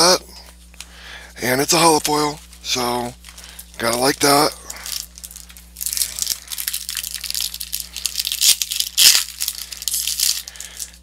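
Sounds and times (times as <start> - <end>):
foil wrapper crinkling: 1.4 - 11.0.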